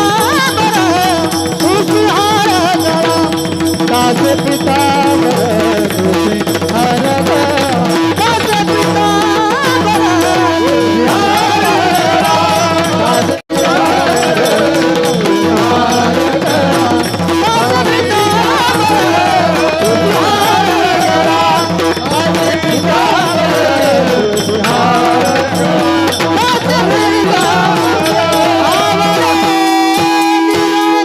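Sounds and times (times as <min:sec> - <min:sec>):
regular drum beat: 0:00.0 - 0:31.0
wavering devotional melody: 0:00.0 - 0:31.0.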